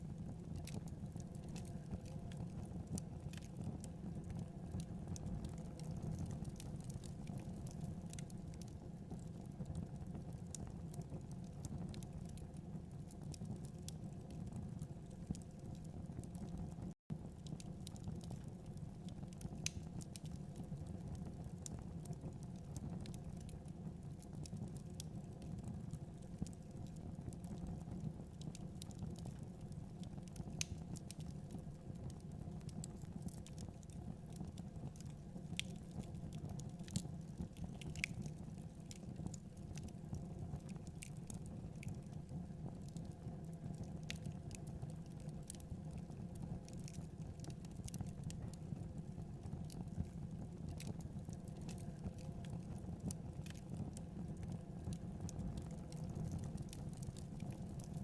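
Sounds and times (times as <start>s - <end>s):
fire popping and crackling: 0.0s - 58.0s
low rumble of flames: 0.0s - 58.0s.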